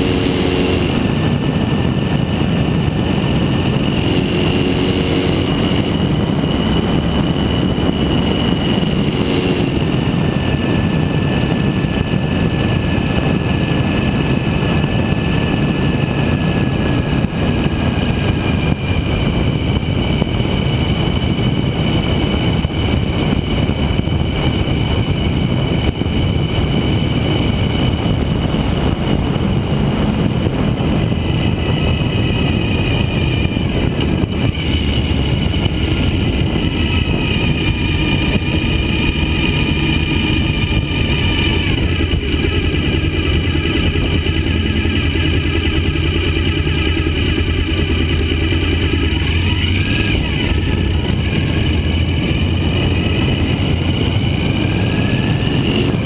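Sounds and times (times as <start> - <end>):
motorcycle engine running: 0.0 - 56.0
steady rushing noise: 0.0 - 56.0.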